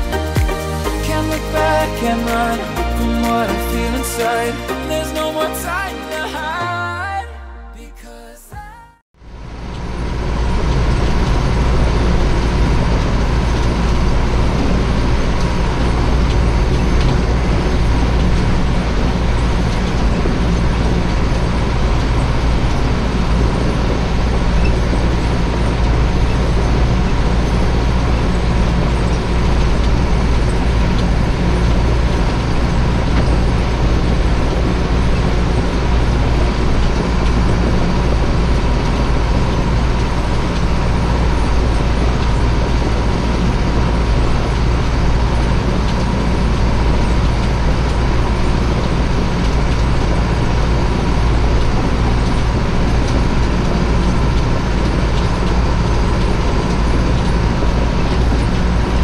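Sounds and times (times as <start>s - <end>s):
tractor engine running: 9.5s - 59.0s.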